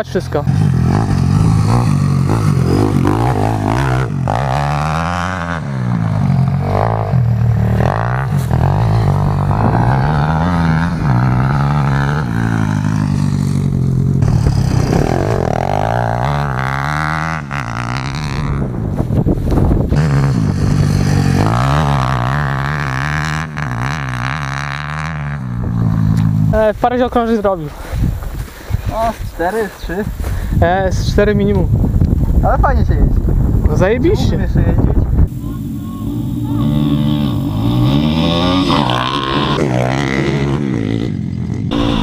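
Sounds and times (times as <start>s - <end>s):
motorbike engine revving: 0.0s - 27.3s, 34.3s - 42.0s.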